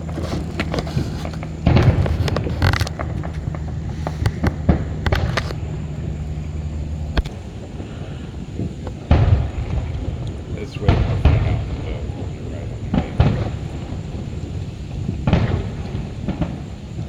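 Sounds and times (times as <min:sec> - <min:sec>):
fireworks bursting and crackling: 0:00.0 - 0:17.0
low engine hum: 0:00.0 - 0:17.0.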